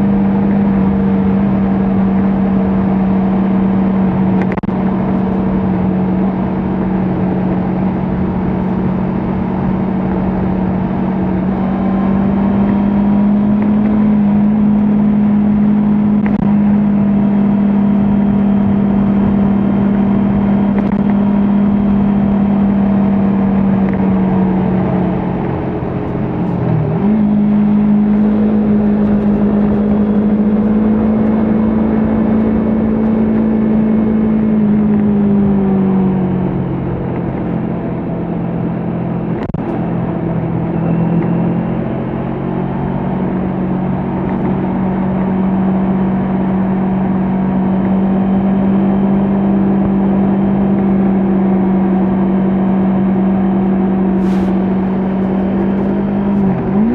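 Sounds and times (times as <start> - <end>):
motorcycle engine cruising: 0.0 - 56.9
road and wind noise: 0.0 - 56.9.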